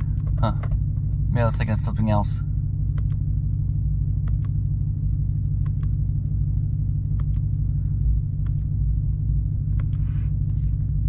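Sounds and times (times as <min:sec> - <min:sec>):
engine idling low rumble: 0:00.0 - 0:11.0.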